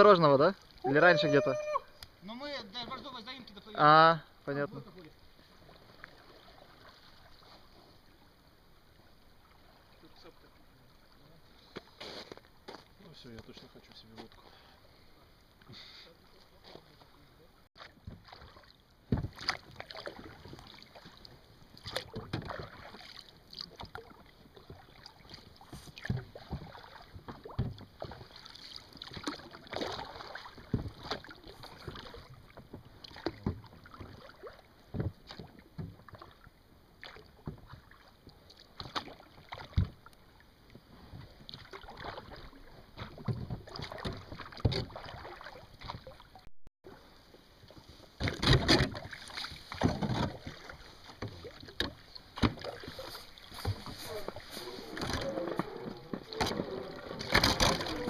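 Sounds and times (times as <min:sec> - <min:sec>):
paddle splashes in river water: 0:00.0 - 0:58.0.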